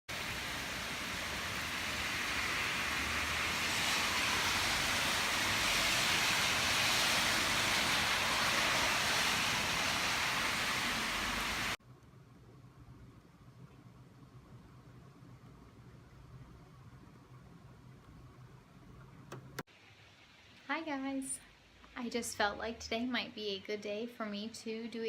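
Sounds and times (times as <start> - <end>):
steady rain falling: 0.1 - 23.0.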